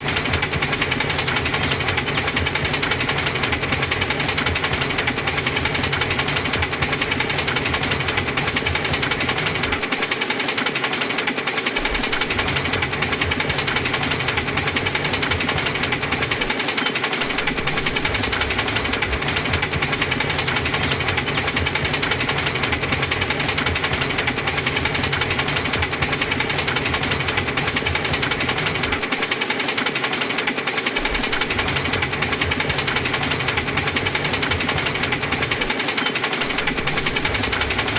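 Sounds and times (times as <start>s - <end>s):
engine knocking rhythm: 0.0s - 37.9s.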